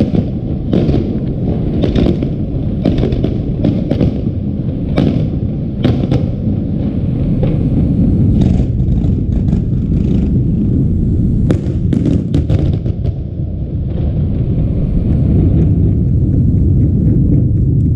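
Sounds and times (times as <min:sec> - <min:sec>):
firework cracks and pops: 0:00.0 - 0:17.9
low rumble of bursting shells: 0:00.0 - 0:17.9.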